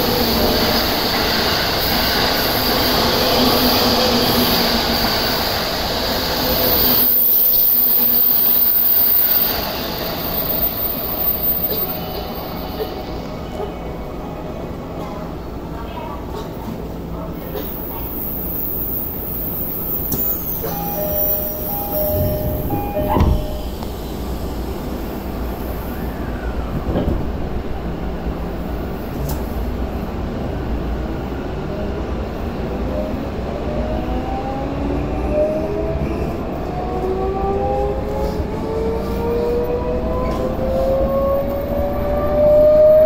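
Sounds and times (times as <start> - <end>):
train running rumble: 0.0 - 42.8.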